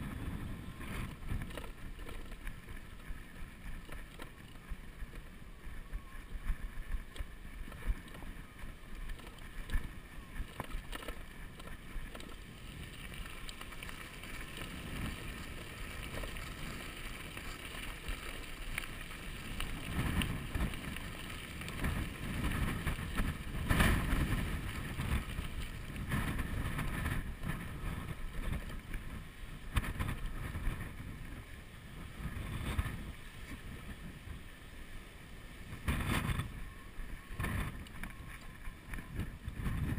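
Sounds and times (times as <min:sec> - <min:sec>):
wind buffeting microphone: 0:00.0 - 0:34.9, 0:35.5 - 0:39.9.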